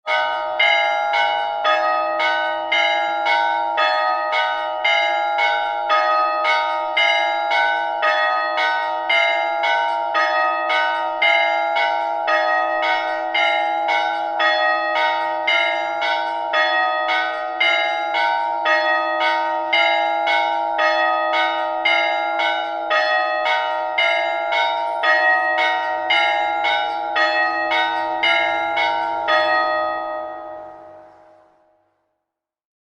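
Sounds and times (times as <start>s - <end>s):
church bells pealing: 0.1s - 31.6s.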